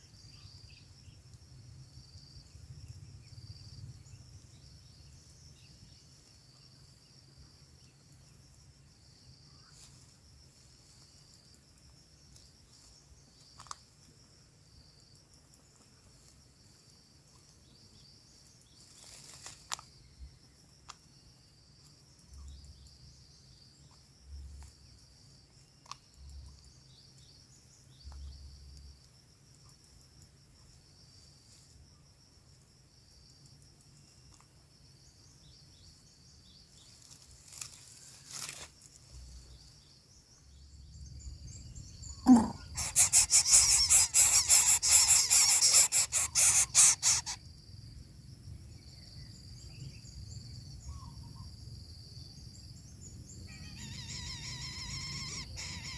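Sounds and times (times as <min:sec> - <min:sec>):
insects chirring: 0:00.0 - 0:55.9.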